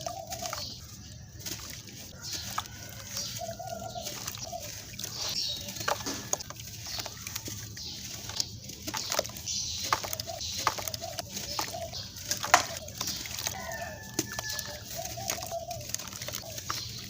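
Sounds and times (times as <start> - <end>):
cement chunks crumbling: 0.0 - 17.0.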